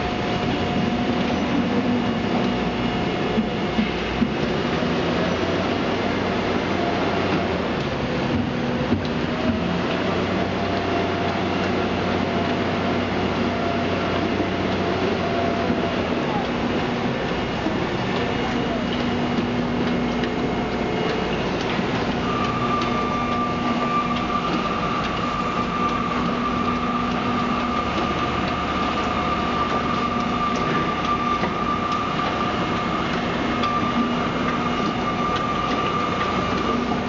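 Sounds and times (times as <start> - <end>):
mortar mixer rumbling: 0.0 - 37.0
steady higher hum: 0.0 - 37.0.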